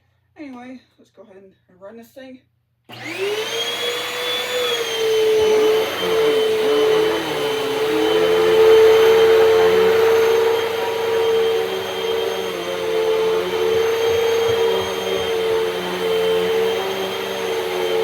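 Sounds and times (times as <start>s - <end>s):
vacuum cleaner motor whine: 2.9s - 18.0s.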